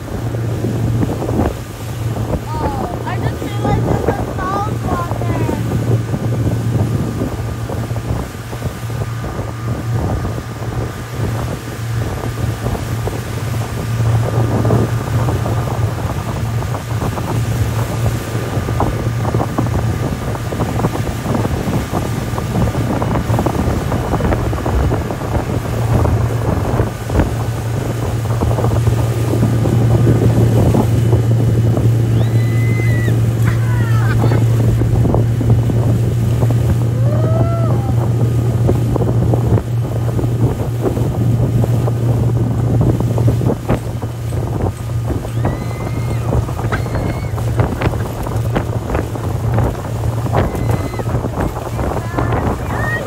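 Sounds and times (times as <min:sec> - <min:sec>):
motorboat engine running: 0:00.0 - 0:53.0
water rushing from wake: 0:00.0 - 0:53.0
wind buffeting microphone: 0:00.0 - 0:53.0.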